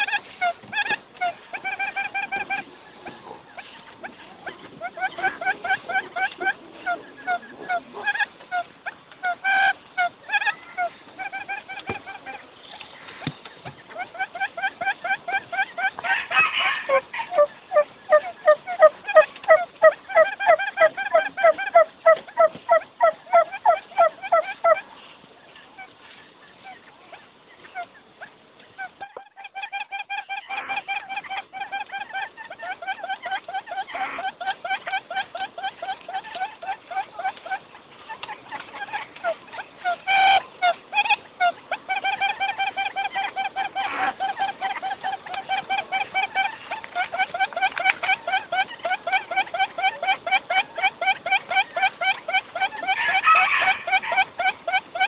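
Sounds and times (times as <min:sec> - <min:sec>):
quail calling: 0:00.0 - 0:55.0.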